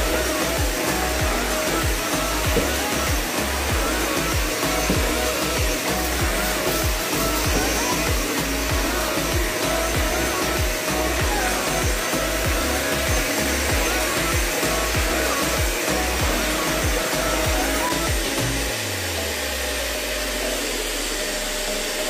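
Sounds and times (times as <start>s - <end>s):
background music with bass beat: 0.0s - 21.0s
floor cleaner motor running: 0.0s - 22.0s.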